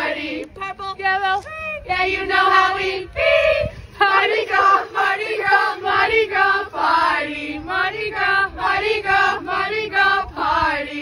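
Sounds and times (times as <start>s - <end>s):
voices chanting in unison: 1.8s - 11.0s.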